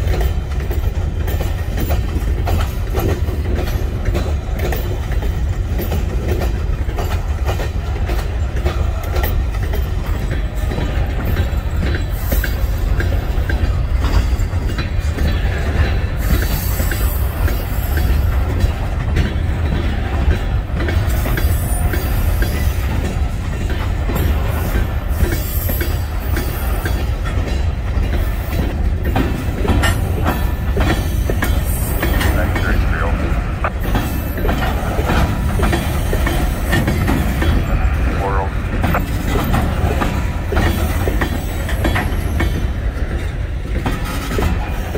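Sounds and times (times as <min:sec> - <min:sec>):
train wheels rumbling on rail: 0:00.0 - 0:44.9
wheels clicking over rail joints: 0:00.0 - 0:44.9.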